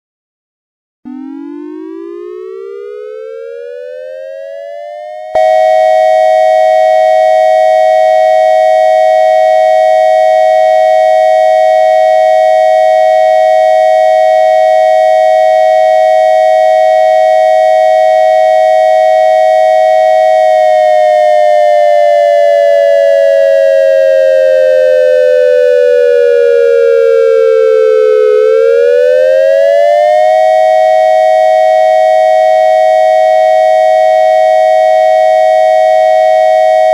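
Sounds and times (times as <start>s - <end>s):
electronic fire siren: 1.1s - 36.9s.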